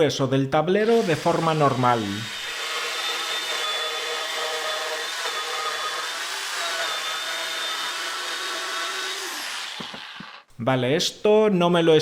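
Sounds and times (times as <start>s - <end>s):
power saw cutting wood: 0.8s - 10.5s.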